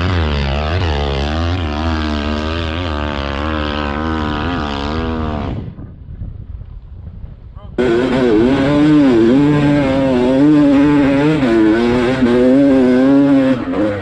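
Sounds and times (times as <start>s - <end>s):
dirt bike engine revving: 0.0s - 5.9s, 7.8s - 14.0s
dull rushing noise: 0.0s - 14.0s.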